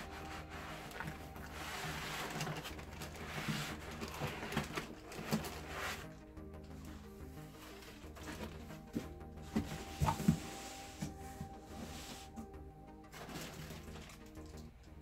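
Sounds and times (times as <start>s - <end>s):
box packaging rustling: 0.0s - 14.7s
background music: 0.0s - 15.0s.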